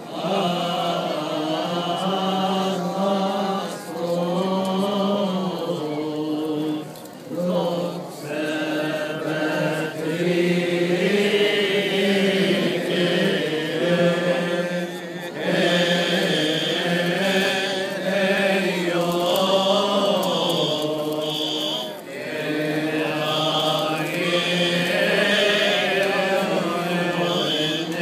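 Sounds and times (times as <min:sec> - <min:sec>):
men chanting a hymn in unison: 0:00.0 - 0:28.0.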